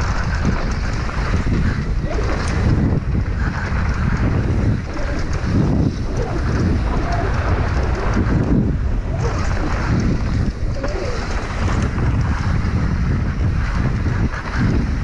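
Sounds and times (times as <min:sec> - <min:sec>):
bike rattling: 0:00.0 - 0:15.0
tyres rolling on dirt: 0:00.0 - 0:15.0
wind buffeting microphone: 0:00.0 - 0:15.0.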